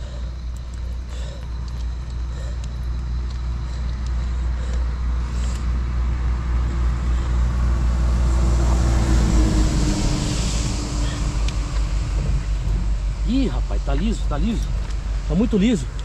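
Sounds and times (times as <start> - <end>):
vehicle passing on road: 0.0 - 16.0.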